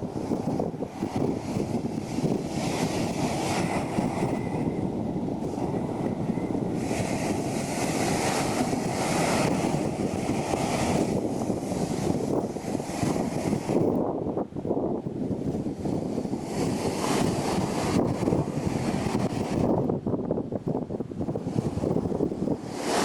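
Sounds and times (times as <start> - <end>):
ocean surf on a beach: 0.0 - 23.0
wind buffeting microphone: 0.0 - 23.0.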